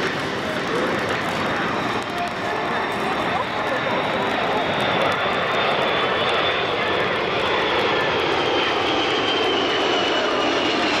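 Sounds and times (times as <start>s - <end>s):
high jet engine whine: 0.0s - 11.0s
jet aircraft flying over: 0.0s - 11.0s.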